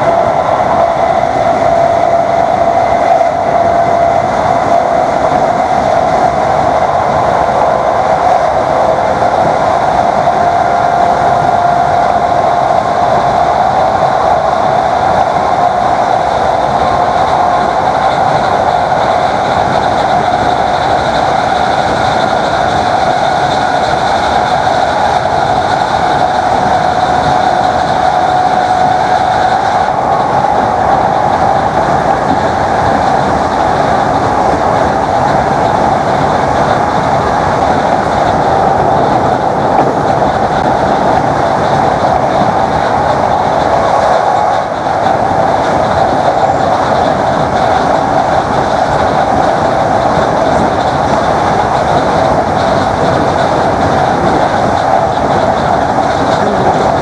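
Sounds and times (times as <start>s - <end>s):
electric train motor whine: 0.0s - 57.0s
wheels rumbling on track: 0.0s - 57.0s.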